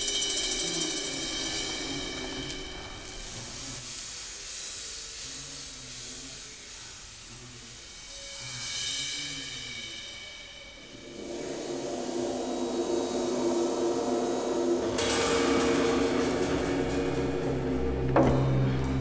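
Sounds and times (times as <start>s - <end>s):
film score sustained tones: 0.0s - 4.0s, 7.7s - 19.0s
cymbal-like hiss: 0.0s - 19.0s.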